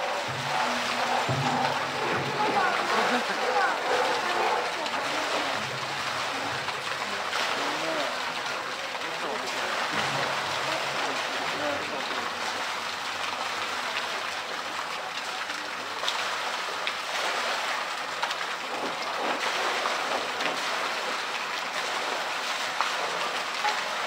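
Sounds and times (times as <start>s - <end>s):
water churning and splashing: 0.0s - 24.0s.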